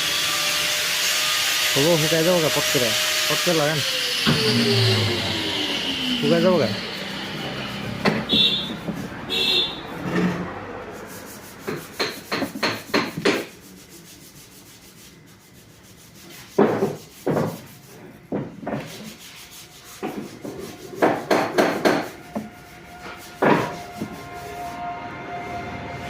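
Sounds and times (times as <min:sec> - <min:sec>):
sanding wood by hand: 0:00.0 - 0:10.1, 0:10.8 - 0:26.0.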